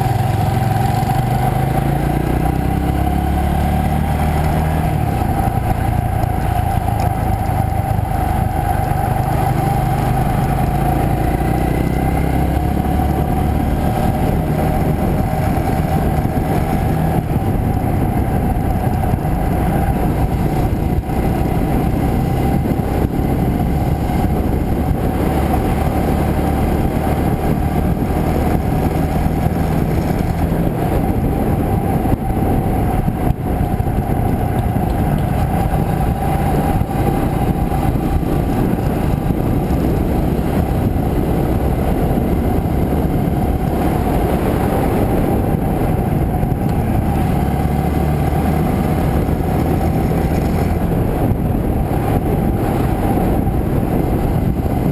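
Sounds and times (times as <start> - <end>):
motorcycle engine running: 0.0 - 54.9
road noise: 0.0 - 54.9
wind rushing: 0.0 - 54.9.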